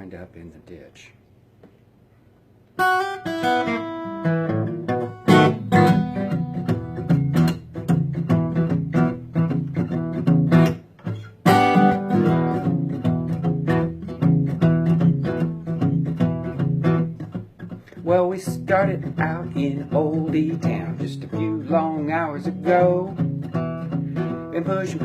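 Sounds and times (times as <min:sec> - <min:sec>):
acoustic guitar strumming and picking: 0:02.8 - 0:25.0.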